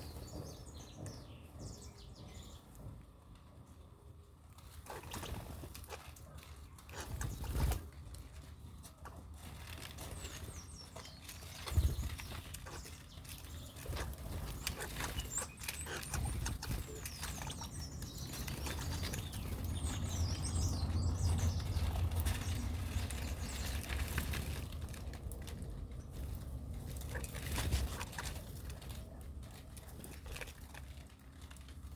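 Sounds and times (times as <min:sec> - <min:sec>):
small birds chirping: 0:00.0 - 0:31.9
wing flaps and rustling: 0:04.5 - 0:31.9.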